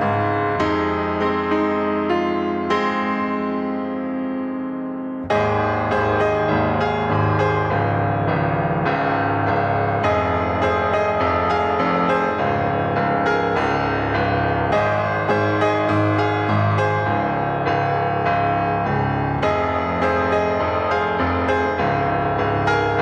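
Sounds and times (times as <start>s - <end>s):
piano piece: 0.0s - 23.0s.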